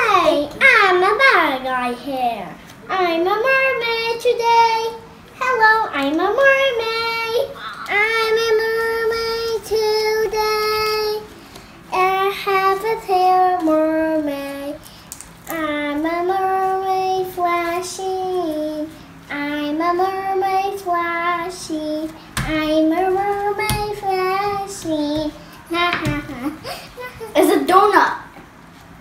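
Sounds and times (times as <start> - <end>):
child singing: 2.9 - 11.3, 11.9 - 14.8, 15.5 - 27.5.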